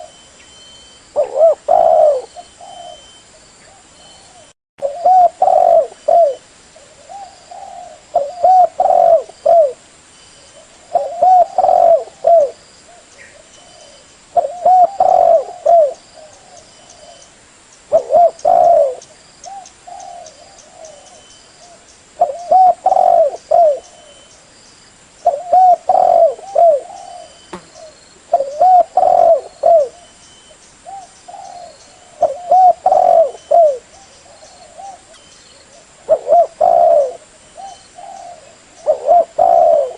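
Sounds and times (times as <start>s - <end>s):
dove cooing: 1.2s - 9.8s, 10.6s - 17.3s, 17.9s - 24.3s, 25.2s - 30.2s, 30.8s - 39.9s.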